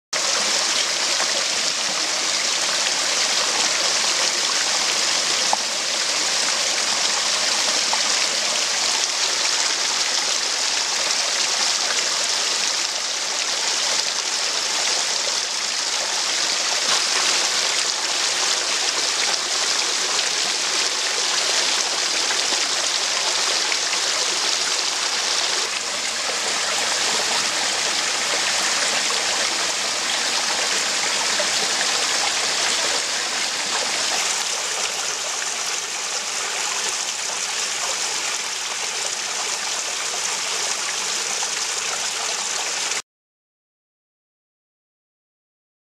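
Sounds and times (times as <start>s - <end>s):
stream water rushing over rocks: 0.2s - 43.0s.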